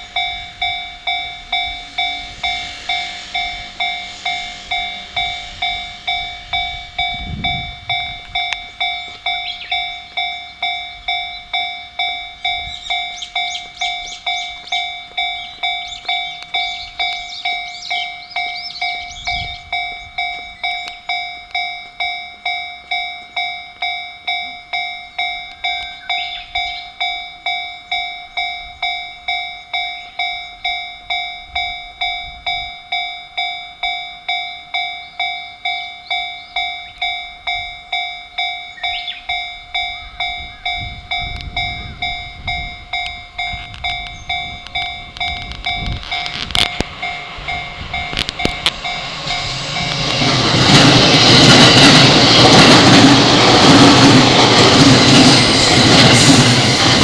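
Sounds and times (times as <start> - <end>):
electric train passing: 0.0 - 57.0
level-crossing warning bell: 0.0 - 57.0.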